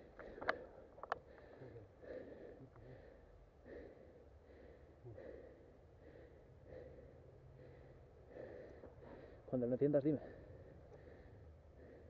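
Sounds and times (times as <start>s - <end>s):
faint close breathing: 0.0s - 12.0s.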